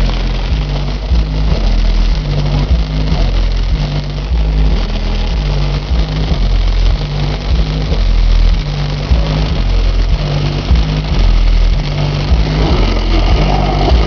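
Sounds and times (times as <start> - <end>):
loud rap music with deep bass: 0.0 - 14.0.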